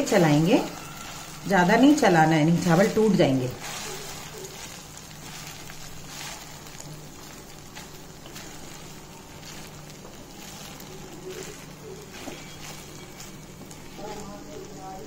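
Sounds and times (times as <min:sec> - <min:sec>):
wooden spatula scraping a pan: 0:00.0 - 0:14.2
rice sizzling in hot fat: 0:00.0 - 0:15.0.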